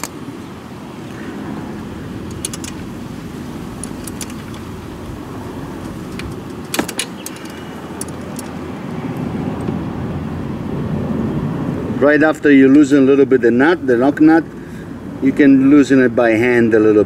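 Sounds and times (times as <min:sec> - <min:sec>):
low background rumble: 0:00.0 - 0:16.8.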